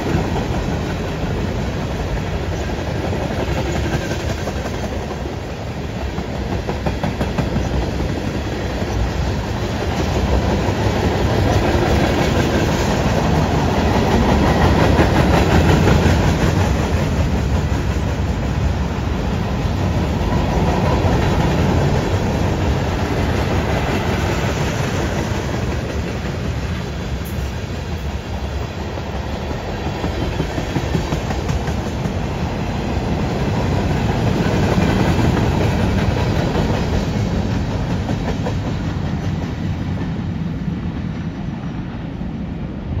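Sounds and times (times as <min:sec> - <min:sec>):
freight train wheels on rails: 0:00.0 - 0:43.0.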